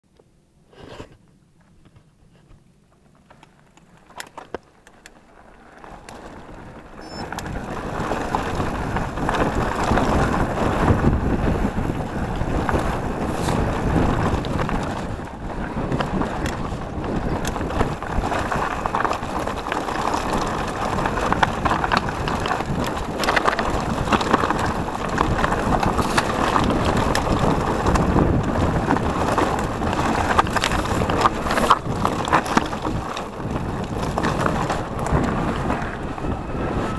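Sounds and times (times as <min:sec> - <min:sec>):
bike rattling over stones: 0:01.3 - 0:36.9
wind on microphone: 0:06.2 - 0:36.9.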